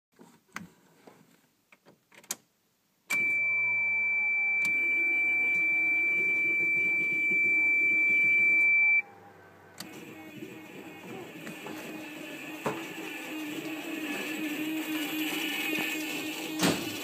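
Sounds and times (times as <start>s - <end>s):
fuel pump whine: 3.1s - 17.0s
relay buzzing: 3.1s - 17.0s.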